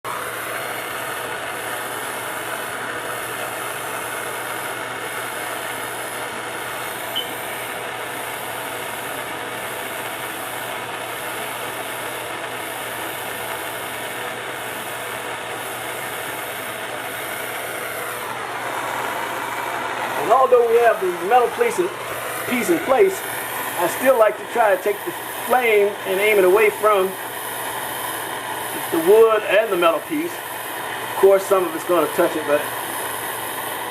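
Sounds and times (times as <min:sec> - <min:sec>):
gas torch hissing: 0:00.1 - 0:33.9.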